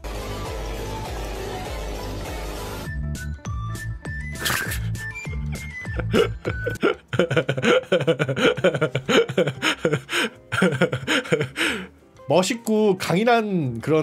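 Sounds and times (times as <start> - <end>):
background music with bass: 0.0 - 12.4.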